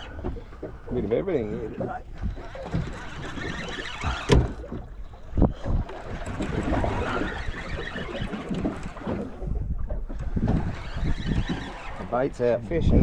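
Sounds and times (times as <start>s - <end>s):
water noise around boat: 0.0s - 13.0s
wind: 0.0s - 13.0s.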